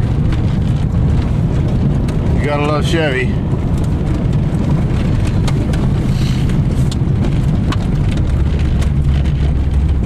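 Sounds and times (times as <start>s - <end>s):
car engine running loudly: 0.0s - 10.0s.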